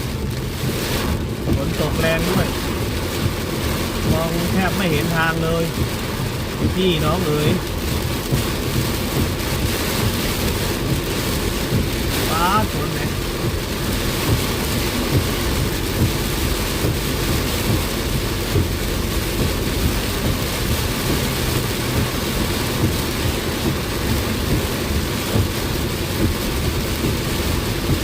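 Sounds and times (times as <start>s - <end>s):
low thuds: 0.0s - 4.6s, 5.6s - 28.0s
heavy rain on a car: 0.0s - 28.0s.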